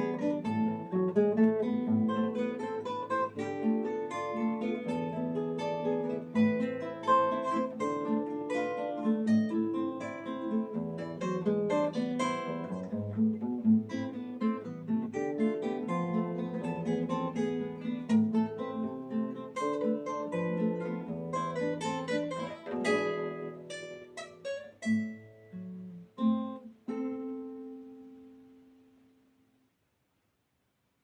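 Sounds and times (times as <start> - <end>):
acoustic guitar playing: 0.0 - 29.6.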